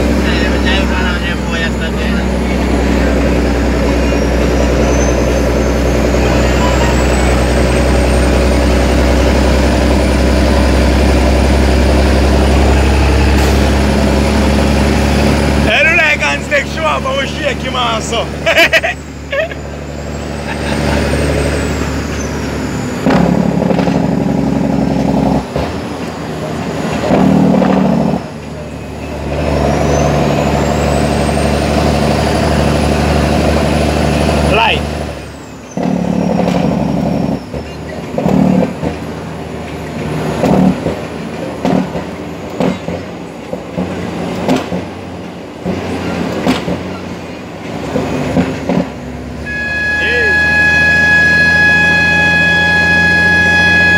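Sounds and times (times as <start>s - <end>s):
truck diesel engine droning: 0.0s - 53.9s.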